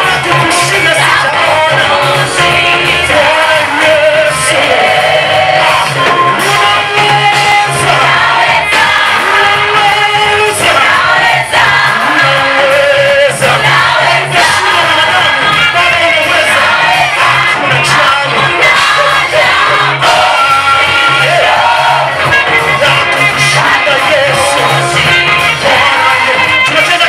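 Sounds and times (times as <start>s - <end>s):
band accompaniment: 0.0s - 27.0s
steady bass line: 0.0s - 27.0s
vocal group singing gospel: 0.0s - 27.0s.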